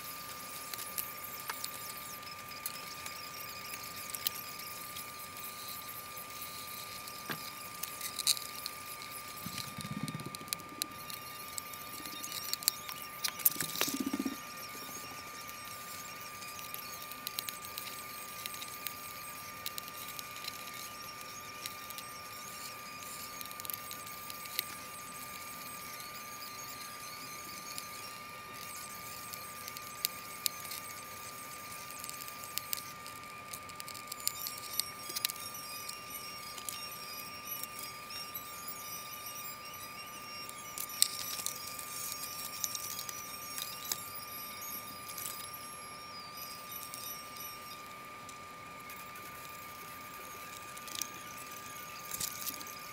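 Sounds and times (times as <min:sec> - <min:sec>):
faint high whine: 0:00.0 - 0:52.9.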